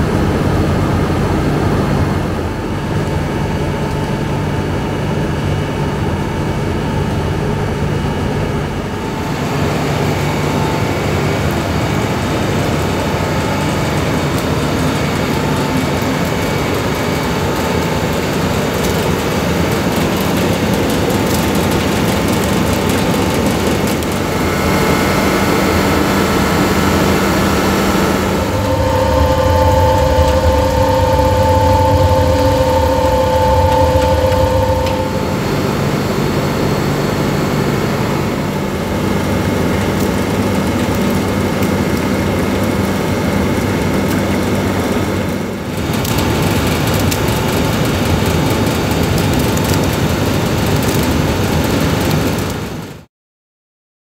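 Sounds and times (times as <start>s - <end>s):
steady whining tones: 0.0s - 50.0s
ice machine humming: 0.0s - 53.0s.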